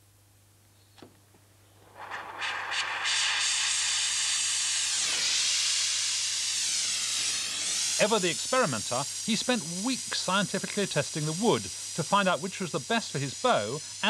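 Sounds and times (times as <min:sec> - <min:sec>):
blowtorch popping as it lights: 0:01.8 - 0:13.2
blowtorch flame hissing: 0:01.8 - 0:14.0.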